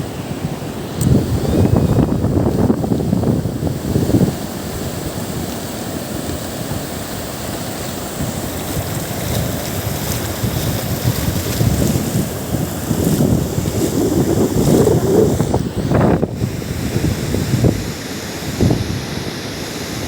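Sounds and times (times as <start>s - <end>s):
wind buffeting microphone: 0.0s - 19.4s
sea surf: 0.0s - 20.0s.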